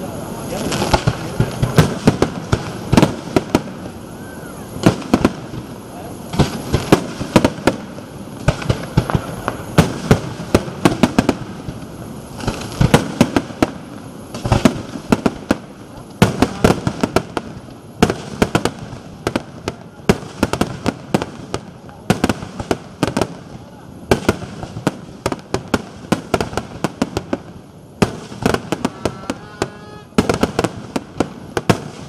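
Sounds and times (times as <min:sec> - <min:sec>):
fireworks bangs and cracks: 0:00.0 - 0:32.0
steady background hiss: 0:00.0 - 0:32.0.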